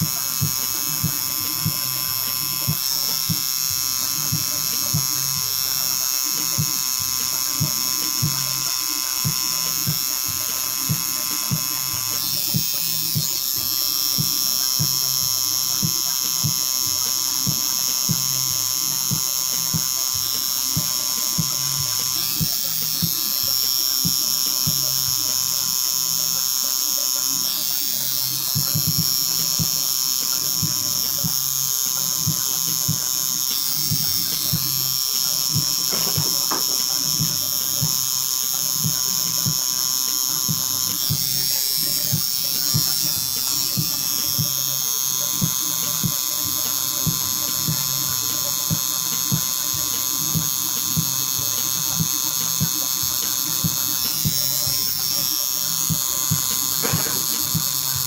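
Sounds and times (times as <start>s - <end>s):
tattoo machine buzzing: 0.0s - 58.0s.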